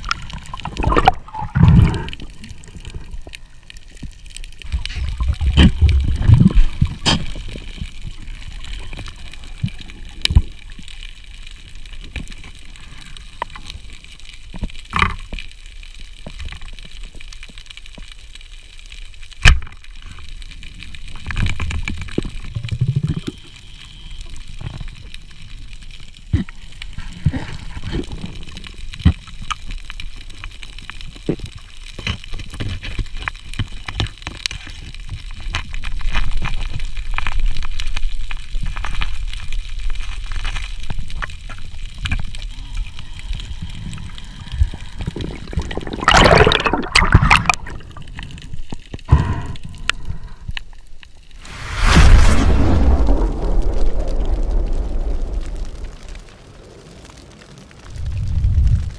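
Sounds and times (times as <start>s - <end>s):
muffled underwater water wash: 0.0s - 31.3s, 34.6s - 58.9s.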